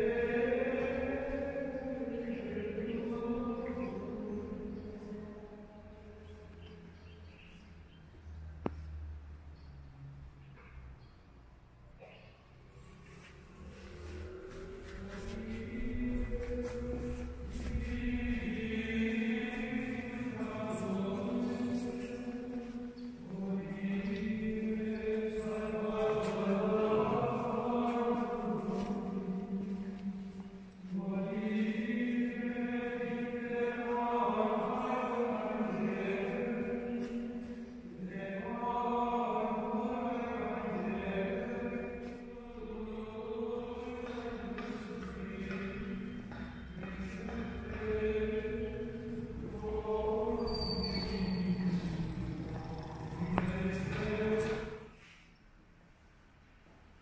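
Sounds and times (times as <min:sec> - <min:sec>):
slow choral chant: 0:00.0 - 0:55.4.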